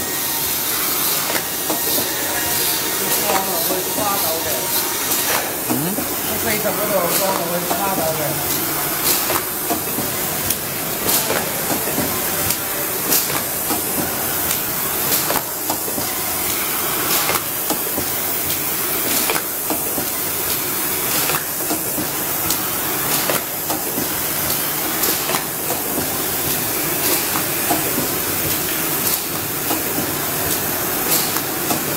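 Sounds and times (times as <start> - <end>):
printing machine hiss: 0.0 - 31.9.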